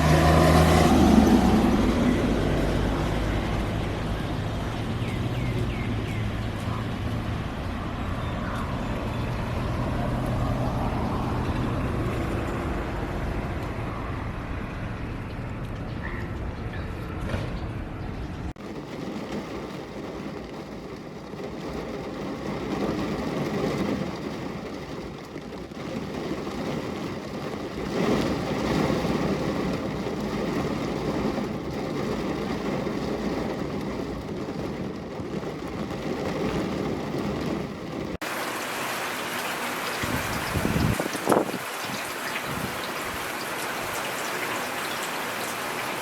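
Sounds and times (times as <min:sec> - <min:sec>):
heavy rain: 0:00.0 - 0:14.7, 0:18.5 - 0:46.0
thinner rain: 0:00.0 - 0:15.8, 0:18.5 - 0:46.0.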